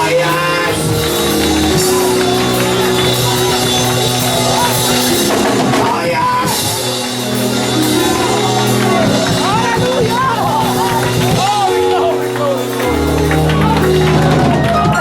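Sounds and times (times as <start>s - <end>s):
drums: 0.0s - 15.0s
keyboard or organ chords: 0.0s - 15.0s
voices singing: 0.0s - 15.0s.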